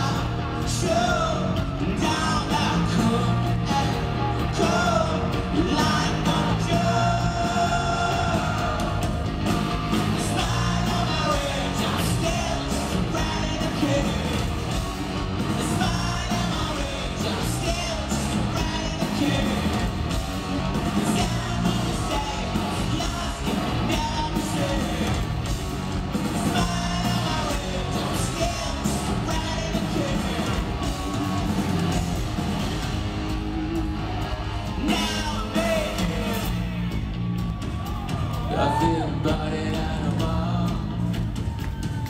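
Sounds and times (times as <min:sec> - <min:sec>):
bass guitar: 0:00.0 - 0:42.0
drums: 0:00.0 - 0:42.0
electric guitars: 0:00.0 - 0:42.0.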